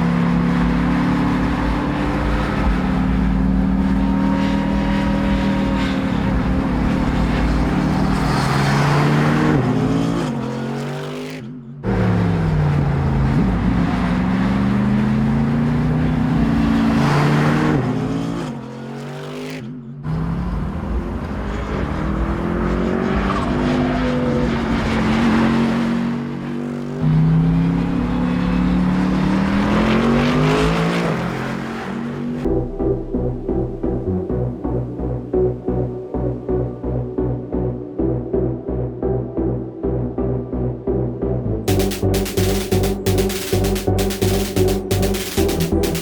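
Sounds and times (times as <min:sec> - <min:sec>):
car engine accelerating and shifting: 0:00.0 - 0:43.6.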